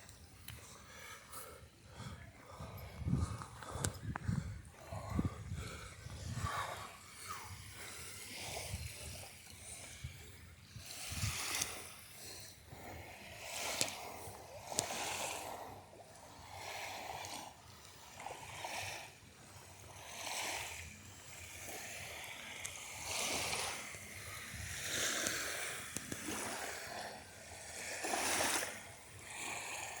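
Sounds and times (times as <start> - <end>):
waves washing onto shore: 4.7 - 30.0.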